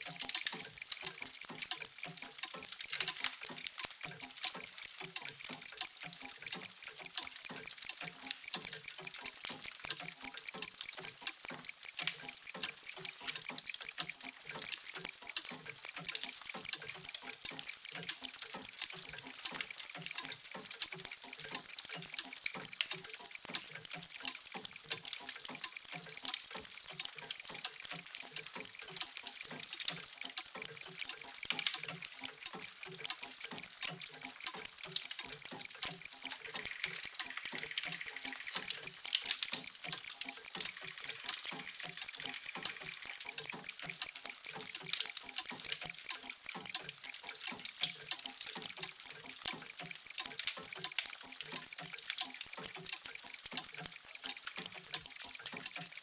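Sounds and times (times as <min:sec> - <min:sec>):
many clocks ticking: 0:00.0 - 0:56.0.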